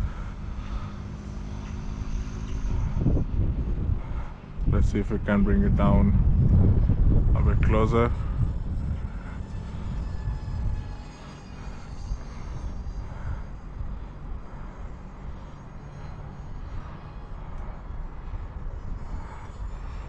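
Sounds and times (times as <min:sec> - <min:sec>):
low rumble: 0:00.0 - 0:20.0
rc jet fans whining: 0:00.0 - 0:20.0.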